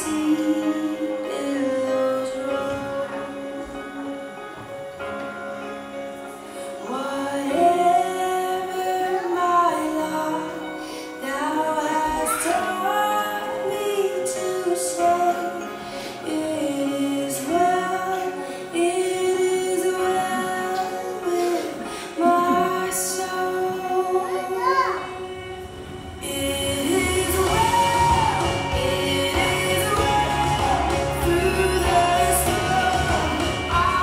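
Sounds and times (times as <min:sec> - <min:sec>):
woman singing: 0:00.0 - 0:04.8, 0:06.8 - 0:34.0.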